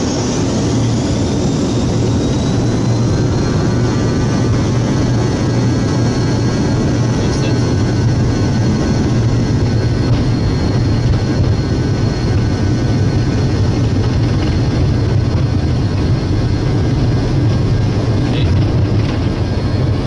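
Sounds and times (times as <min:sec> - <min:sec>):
low hum: 0:00.0 - 0:20.0
rush of engines and airflow: 0:00.0 - 0:20.0.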